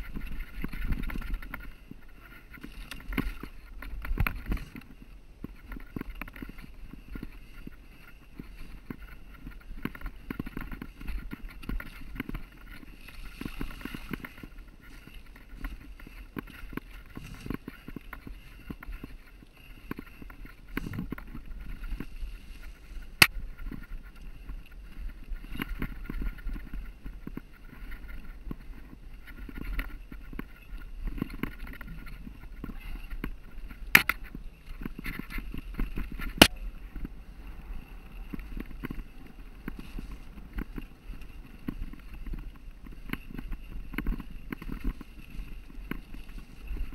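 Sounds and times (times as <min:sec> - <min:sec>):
mountain bike rattling: 0:00.0 - 0:46.9.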